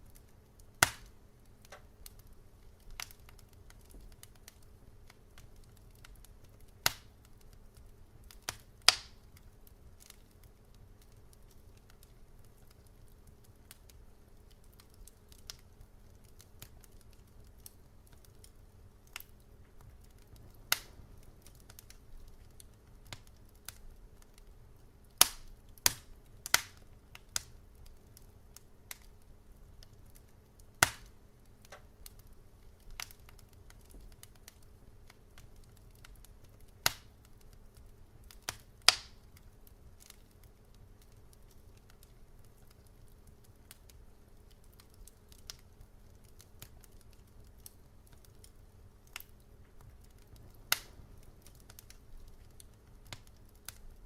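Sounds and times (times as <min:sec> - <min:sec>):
faint low rumble: 0:00.0 - 0:54.0
wood fire crackling: 0:00.0 - 0:54.0.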